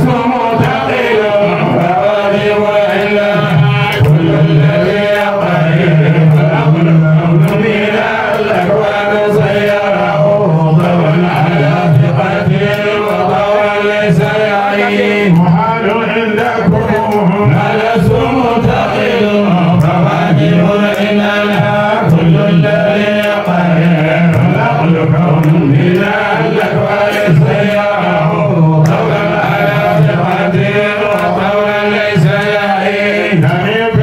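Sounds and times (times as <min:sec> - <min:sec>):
man chanting into a microphone: 0:00.0 - 0:34.0.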